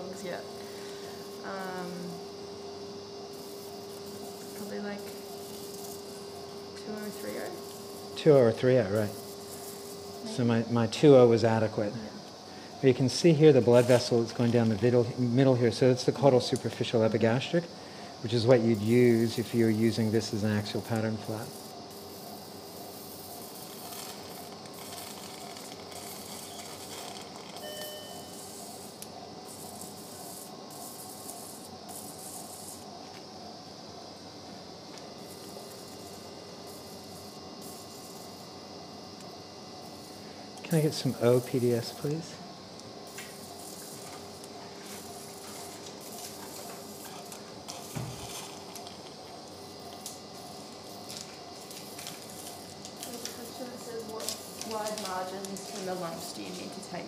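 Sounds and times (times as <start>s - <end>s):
equipment hiss: 0.0s - 57.0s.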